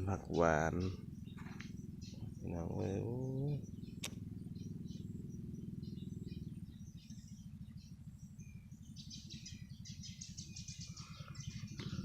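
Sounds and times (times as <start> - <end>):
birds chirping: 0.0 - 12.0
insects calling: 0.0 - 12.0
low drone: 0.0 - 12.0.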